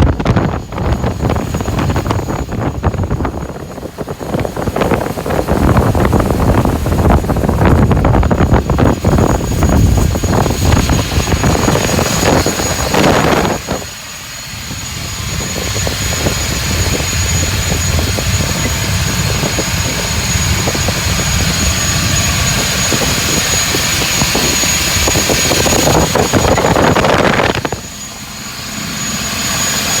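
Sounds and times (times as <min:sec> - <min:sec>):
diesel engine high whine: 0:00.0 - 0:30.0.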